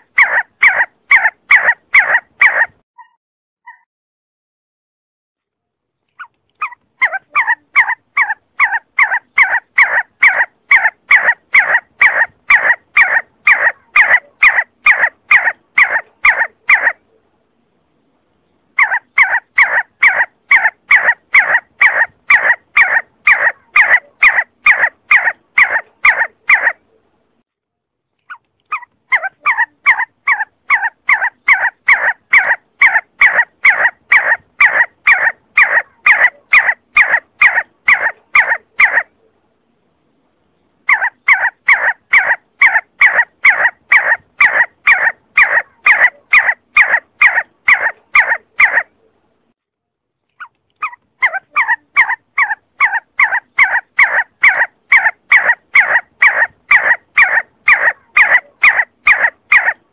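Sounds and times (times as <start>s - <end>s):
partridge calling: 0.0s - 3.8s, 6.2s - 17.0s, 18.8s - 26.8s, 28.3s - 39.1s, 40.9s - 48.9s, 50.4s - 59.8s.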